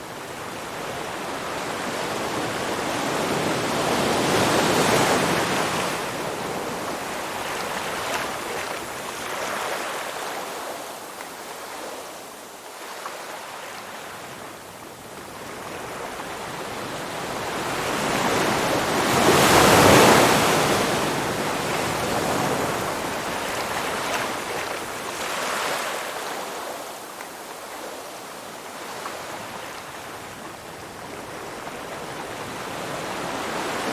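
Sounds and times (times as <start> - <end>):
ocean waves washing ashore: 0.0 - 33.9.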